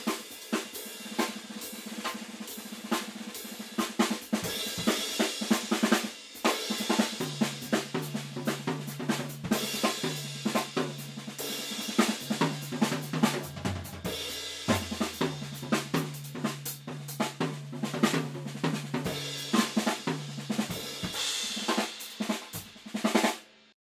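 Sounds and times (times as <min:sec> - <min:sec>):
drum kit groove: 0:00.0 - 0:23.7.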